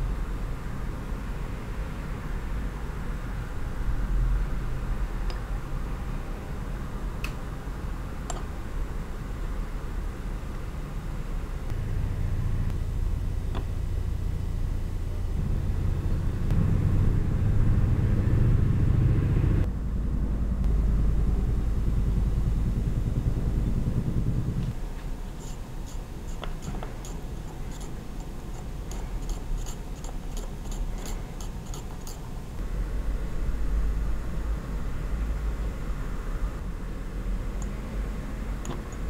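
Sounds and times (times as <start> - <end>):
low steady rumble: 0.0 - 39.0.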